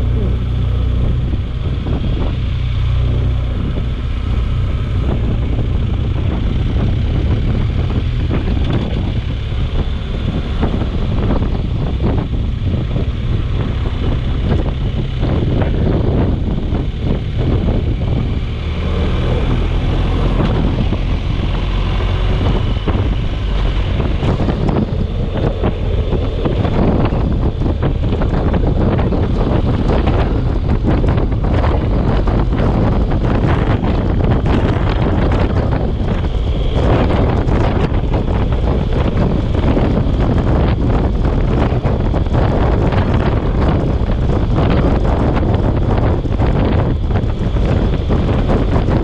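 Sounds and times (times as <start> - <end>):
storm wind buffeting microphone: 0.0 - 49.0.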